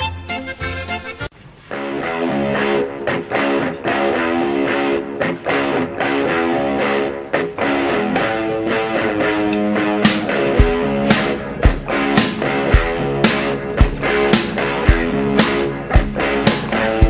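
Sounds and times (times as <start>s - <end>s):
music with strummed guitar: 0.0s - 17.0s.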